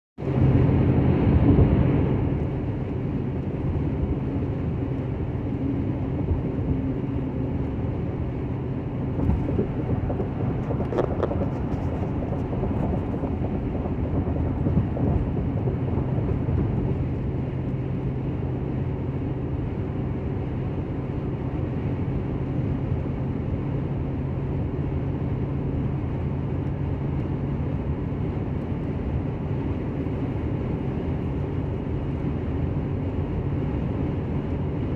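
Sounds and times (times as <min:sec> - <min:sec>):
low cabin hum: 0:00.2 - 0:34.9
tyre and road noise: 0:00.2 - 0:34.9.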